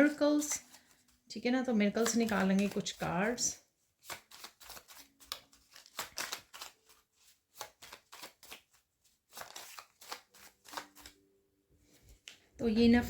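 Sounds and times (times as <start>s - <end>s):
cards being shuffled: 0.0s - 11.2s.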